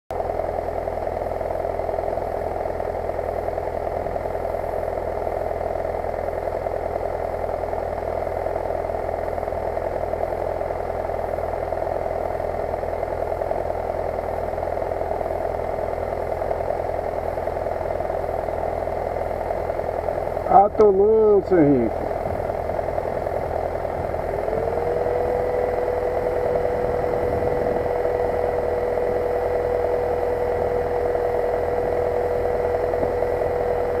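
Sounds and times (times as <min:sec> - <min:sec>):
motorcycle engine idling: 0:00.1 - 0:34.0.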